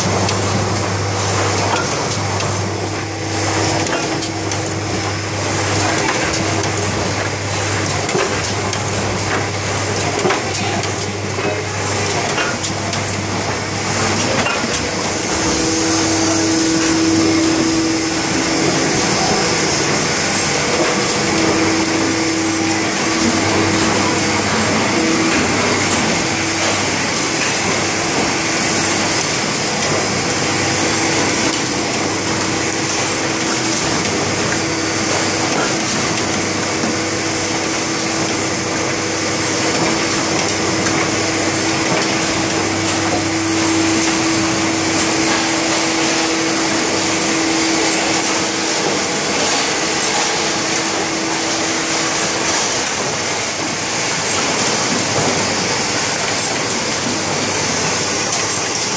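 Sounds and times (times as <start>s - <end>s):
machine whirring and hissing: 0.0s - 58.9s
steady machine hum: 0.0s - 58.9s.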